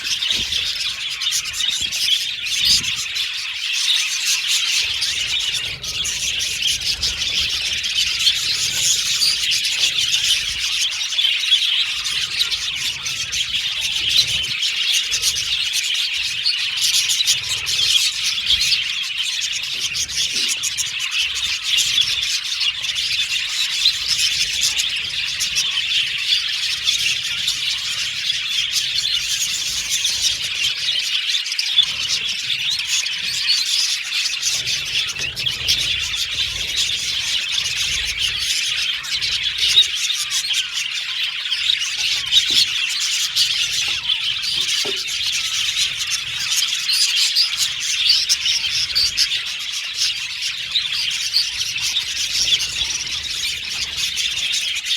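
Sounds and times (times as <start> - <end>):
budgerigars chattering and warbling: 0.0 - 54.9.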